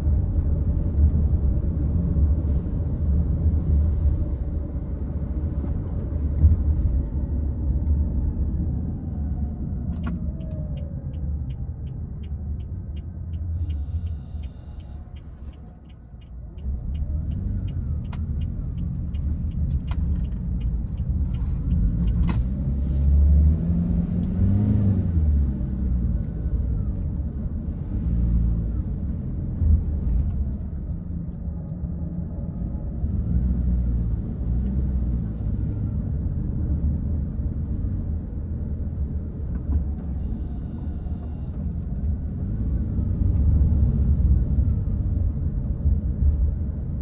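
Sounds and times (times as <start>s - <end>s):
car engine and tyre rumble: 0.0s - 47.0s.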